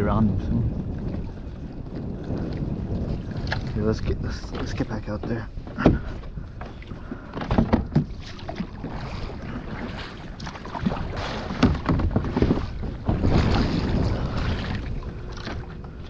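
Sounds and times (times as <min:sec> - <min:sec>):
wind buffeting microphone: 0:00.0 - 0:16.0
paddle strokes splashing: 0:00.8 - 0:16.0.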